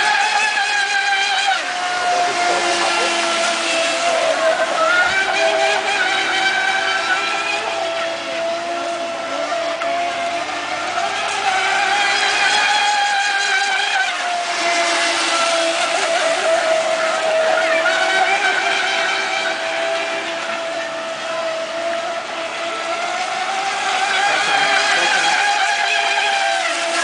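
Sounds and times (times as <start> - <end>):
electric motor high whine: 0.0 - 27.0.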